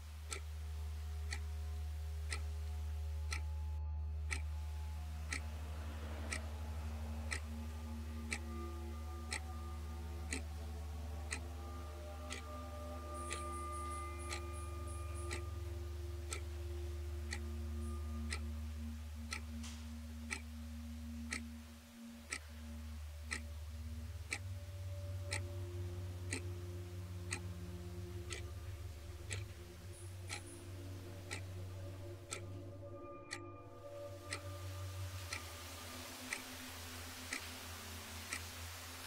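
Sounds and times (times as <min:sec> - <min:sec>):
clock ticking: 0:00.0 - 0:39.0
low steady hum: 0:00.0 - 0:39.0.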